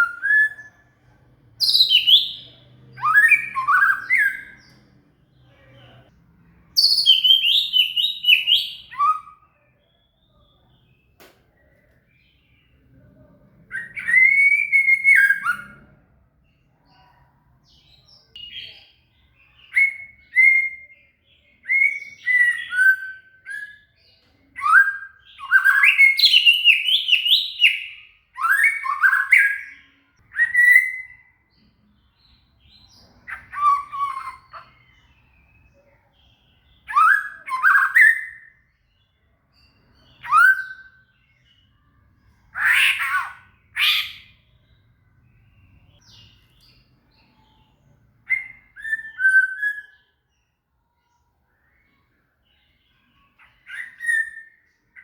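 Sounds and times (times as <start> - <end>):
songbird whistled song: 0.0 - 55.0.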